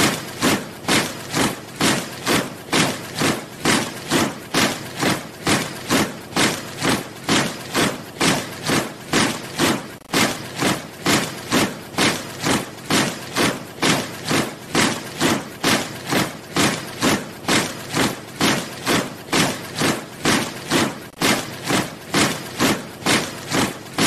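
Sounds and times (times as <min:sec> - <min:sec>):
soldiers marching in step: 0:00.0 - 0:24.0.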